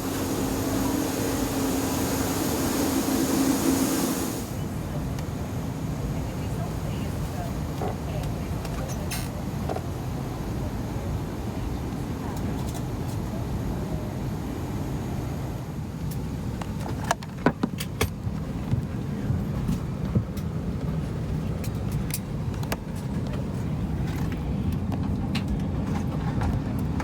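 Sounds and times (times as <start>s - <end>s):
aircraft cabin rumble: 0.0s - 27.0s.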